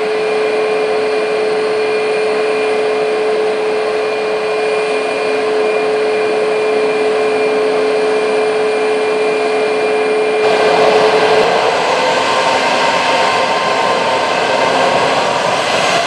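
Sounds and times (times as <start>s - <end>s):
jet engines with high whine: 0.0s - 16.0s.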